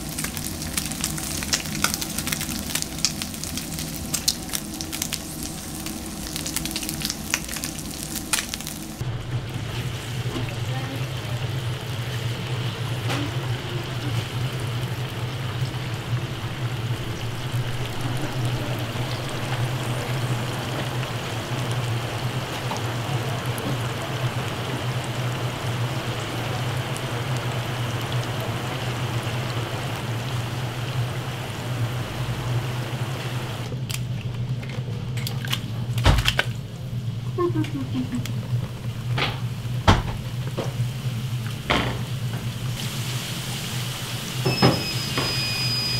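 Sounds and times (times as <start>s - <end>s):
fries sizzling in hot oil: 0.0s - 33.8s, 36.6s - 45.9s.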